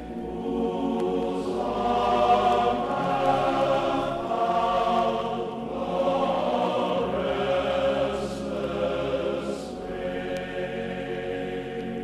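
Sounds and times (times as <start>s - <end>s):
choir singing slow chords: 0.0s - 12.0s.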